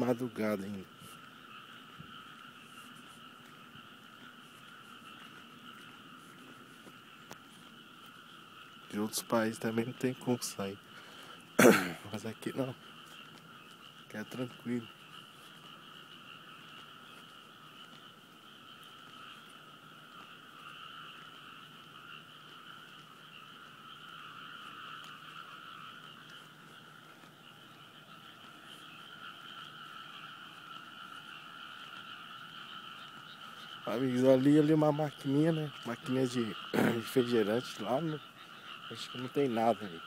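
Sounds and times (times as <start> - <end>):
chorus of frogs calling: 0.0 - 40.0.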